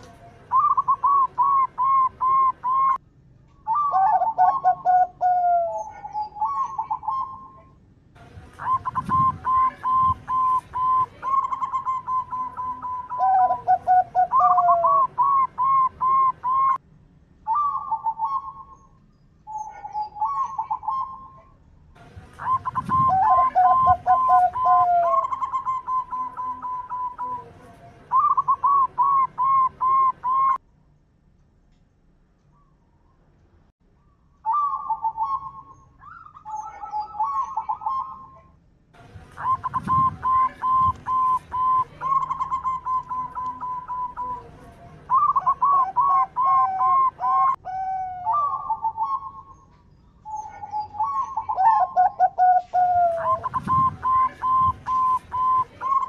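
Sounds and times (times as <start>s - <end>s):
dove cooing: 0.0s - 3.0s, 3.7s - 7.8s, 8.6s - 16.8s, 17.5s - 18.9s, 19.5s - 30.6s, 34.5s - 38.5s, 39.3s - 49.6s, 50.3s - 56.0s.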